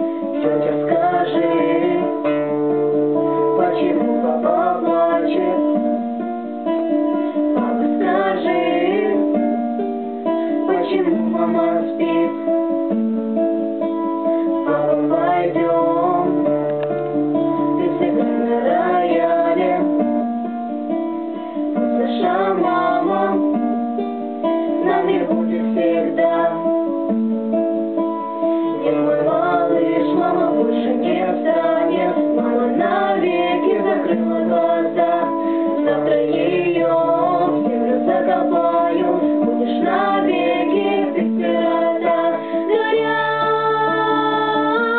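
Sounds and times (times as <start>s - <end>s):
guitar playing: 0.0s - 44.9s.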